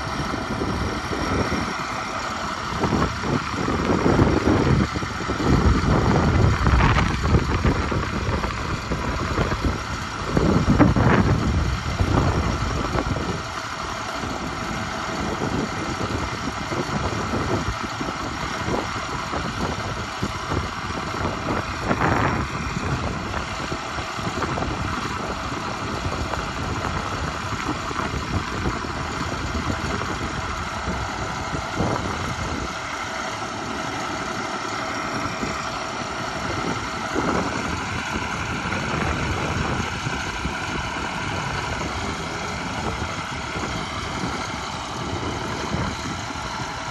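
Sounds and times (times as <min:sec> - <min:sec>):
truck engine idling: 0:00.0 - 0:46.9.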